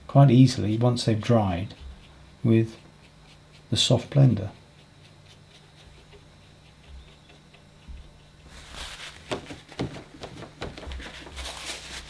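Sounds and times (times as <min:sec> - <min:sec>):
low steady hum: 0:00.0 - 0:12.0
scratchy rustling on paper: 0:00.5 - 0:12.0.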